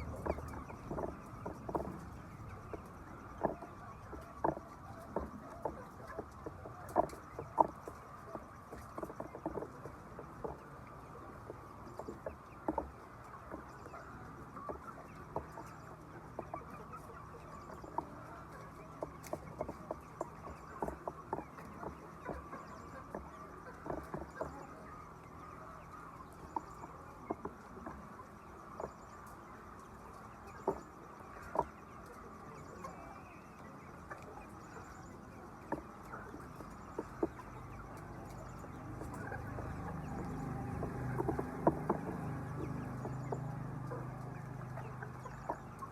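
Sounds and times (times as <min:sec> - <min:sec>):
hens clucking: 0:00.0 - 0:45.9.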